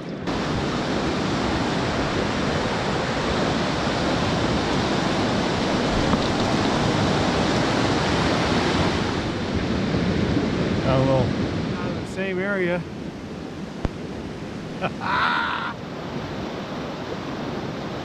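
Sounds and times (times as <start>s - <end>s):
rushing mountain stream: 0.1s - 18.0s.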